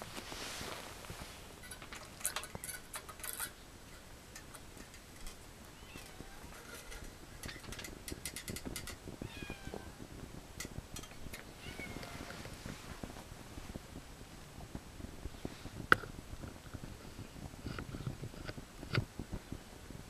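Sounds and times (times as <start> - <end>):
pellet fire crackling: 0.0 - 20.0
stove low rumble: 0.0 - 20.0.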